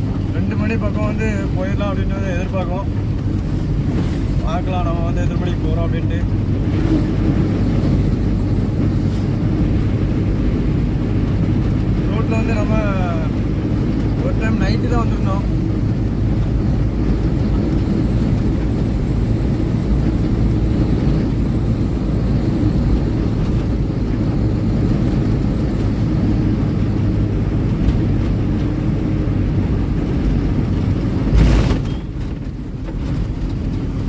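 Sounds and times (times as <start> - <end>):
truck engine and road noise: 0.0 - 34.0.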